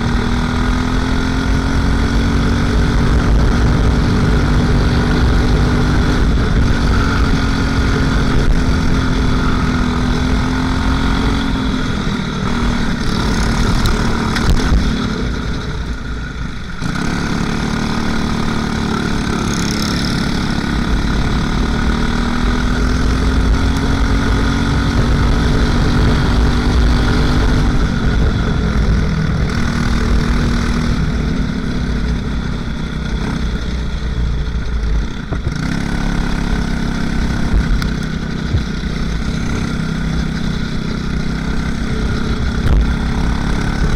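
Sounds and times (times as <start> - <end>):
kart engine running: 0.0 - 43.9.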